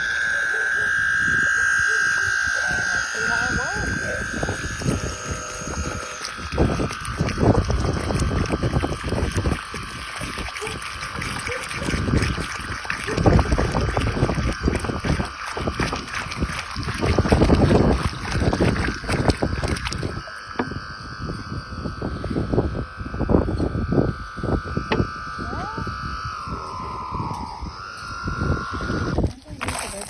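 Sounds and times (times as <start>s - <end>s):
fountain pump whining: 0.0s - 30.0s.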